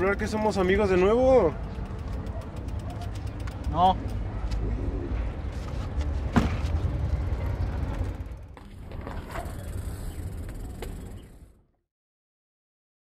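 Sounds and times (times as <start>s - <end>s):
low street rumble: 0.0s - 11.7s.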